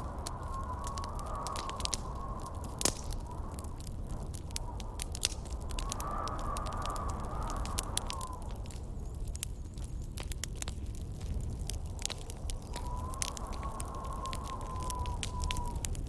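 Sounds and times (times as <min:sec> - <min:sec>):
campfire crackling and popping: 0:00.0 - 0:16.0
howling wind whistle: 0:00.0 - 0:16.0
low wind rush: 0:00.0 - 0:16.0.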